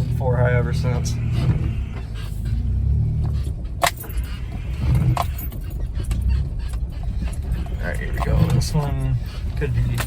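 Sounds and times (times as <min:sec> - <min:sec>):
vehicle engine running low: 0:00.0 - 0:10.0
vehicle knocks and rattles: 0:00.0 - 0:10.0.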